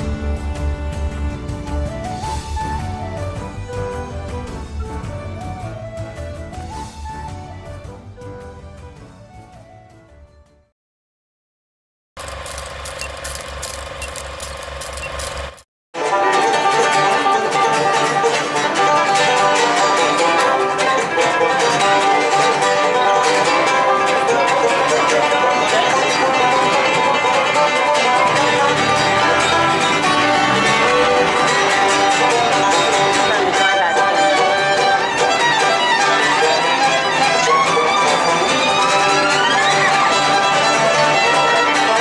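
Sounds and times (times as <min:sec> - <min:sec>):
acoustic guitar: 0:00.0 - 0:08.7, 0:16.0 - 0:42.0
banjo: 0:00.0 - 0:09.8, 0:16.0 - 0:42.0
fiddle: 0:00.0 - 0:09.8, 0:16.0 - 0:42.0.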